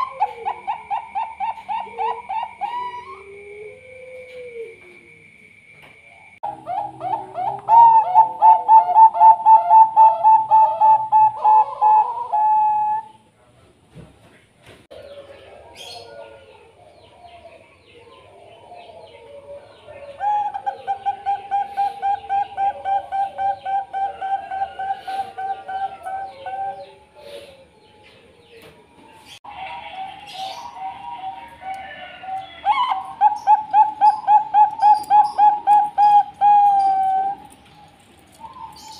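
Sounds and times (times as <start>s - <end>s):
doves soft cooing: 0.0s - 5.4s, 6.1s - 13.4s, 14.9s - 38.9s.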